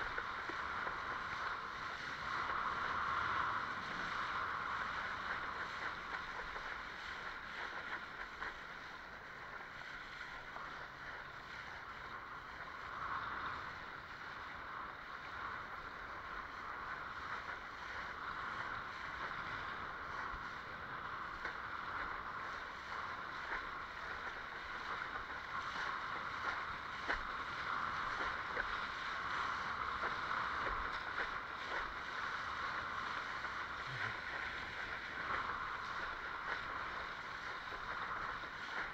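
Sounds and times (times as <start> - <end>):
water rushing along a hull: 0.0 - 38.9.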